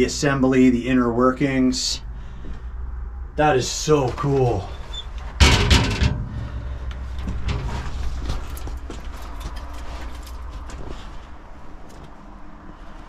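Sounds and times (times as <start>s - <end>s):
low steady rumble: 0.0s - 12.9s.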